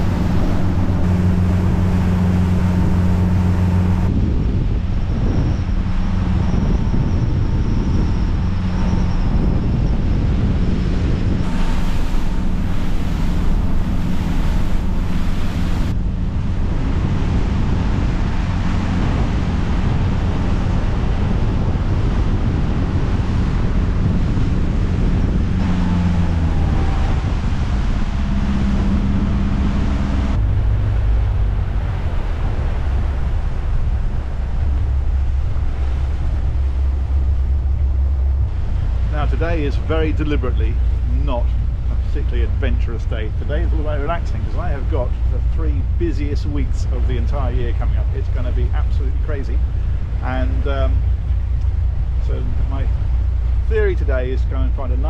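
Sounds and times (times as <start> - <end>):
motorboat engine: 0.0 - 55.0
water rushing past hull: 0.0 - 55.0
wind buffeting microphone: 0.0 - 55.0.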